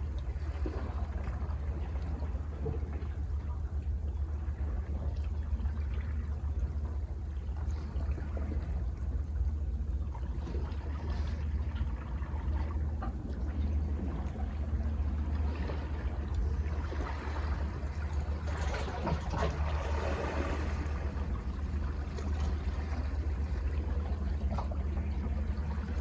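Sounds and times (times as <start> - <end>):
steady low rumble: 0.0 - 26.0
sea waves washing in: 4.4 - 26.0.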